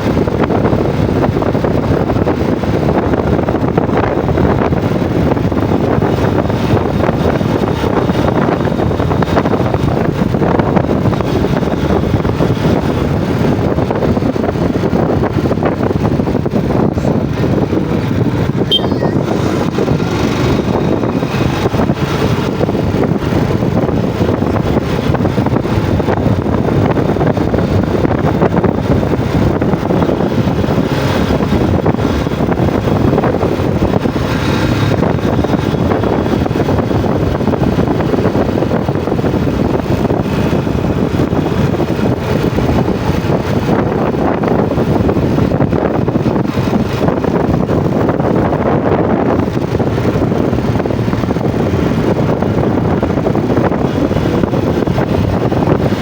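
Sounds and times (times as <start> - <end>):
motorcycle road noise: 0.0 - 56.0
wind rushing over microphone: 0.0 - 56.0.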